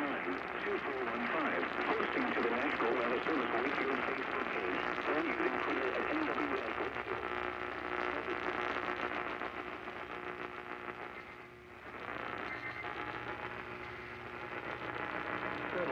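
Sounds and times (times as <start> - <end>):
faint hum tones: 0.0 - 15.9
radio static hiss: 0.0 - 15.9.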